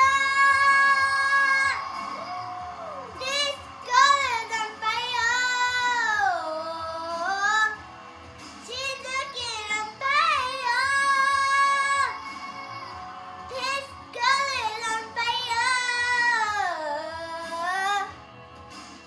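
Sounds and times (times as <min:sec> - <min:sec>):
girl singing: 0:00.0 - 0:01.8, 0:03.1 - 0:07.8, 0:08.6 - 0:18.1.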